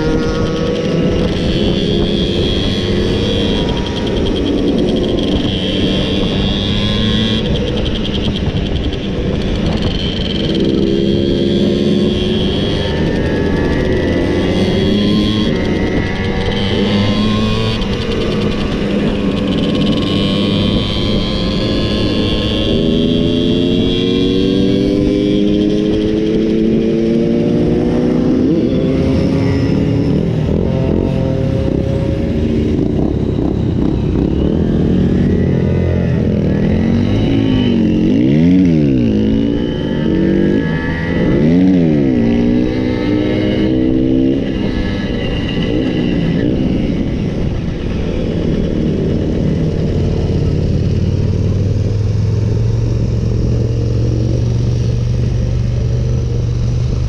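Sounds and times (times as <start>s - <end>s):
moped engines revving: 0.0s - 57.0s.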